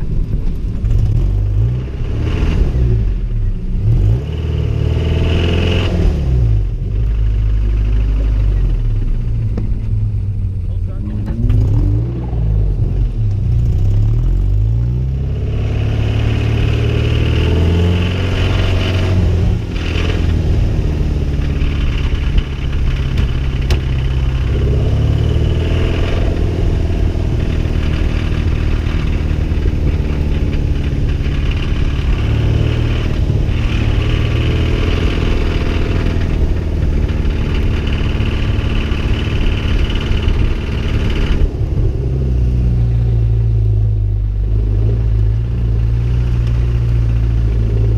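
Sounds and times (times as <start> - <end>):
car engine revving hard: 0.9 - 8.9, 10.6 - 43.4.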